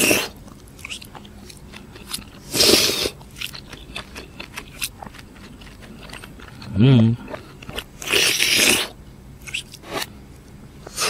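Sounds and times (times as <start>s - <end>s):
person chewing wetly: 0.0s - 10.1s.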